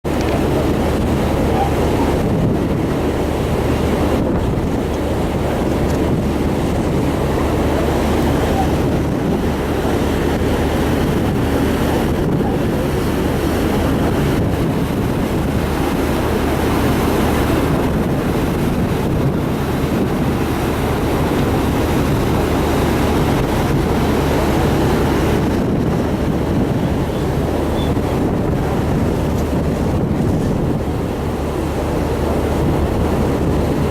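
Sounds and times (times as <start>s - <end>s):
ship engines humming: 0.0s - 33.9s
waves rushing past hull: 0.0s - 33.9s
wind buffeting microphone: 0.0s - 33.9s.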